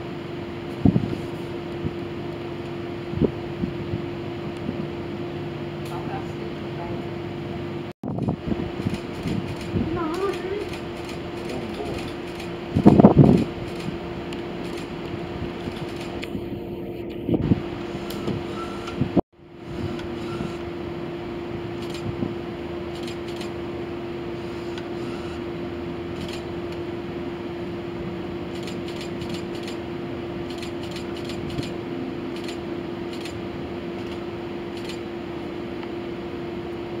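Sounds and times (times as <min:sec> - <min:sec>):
outdoor noise: 0:00.0 - 0:37.0
steady mechanical drone: 0:00.0 - 0:37.0.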